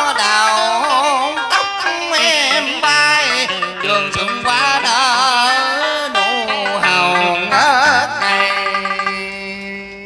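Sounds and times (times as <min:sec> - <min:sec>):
melody with wide vibrato: 0:00.0 - 0:09.9
plucked guitar notes: 0:00.0 - 0:10.0.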